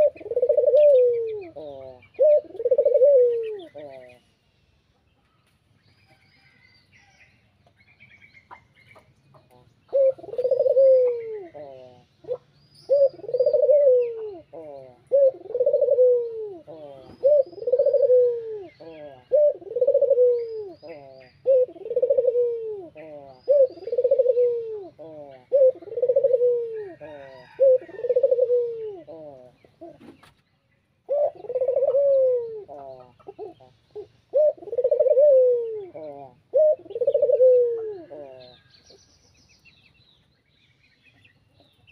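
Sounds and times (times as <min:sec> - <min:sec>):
dove cooing: 0:00.0 - 0:04.2, 0:08.5 - 0:30.3, 0:31.0 - 0:38.7
small birds chirping faintly: 0:00.0 - 0:41.9.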